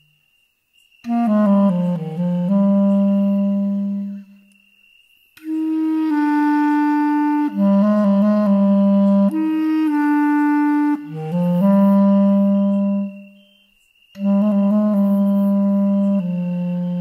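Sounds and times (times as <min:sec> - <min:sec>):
solo clarinet melody: 0:01.0 - 0:04.4, 0:05.4 - 0:17.0.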